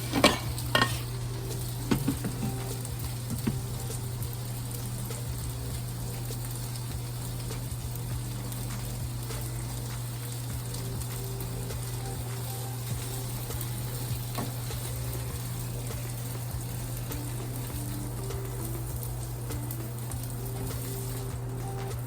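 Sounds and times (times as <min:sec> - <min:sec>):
sausages sizzling in a skillet: 0:00.0 - 0:22.0.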